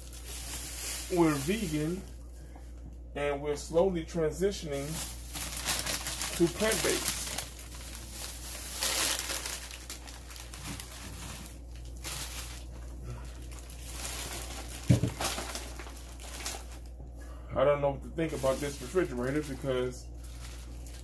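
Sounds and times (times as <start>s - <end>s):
plastic bags rustling and crinkling: 0.0s - 2.2s, 4.7s - 17.0s, 18.2s - 21.0s
steady low hum: 0.0s - 21.0s.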